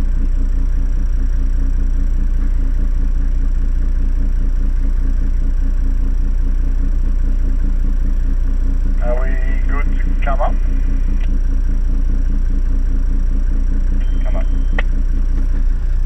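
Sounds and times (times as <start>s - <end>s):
engine idling heard from cabin: 0.0s - 16.0s.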